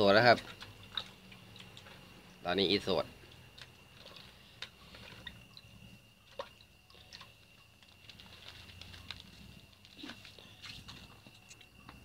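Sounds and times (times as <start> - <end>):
hand washing fish in water: 0.0 - 12.0.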